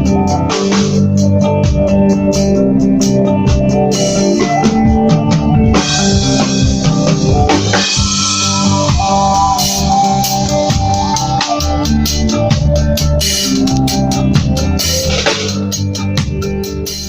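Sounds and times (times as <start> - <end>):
reggae band music: 0.0 - 17.0.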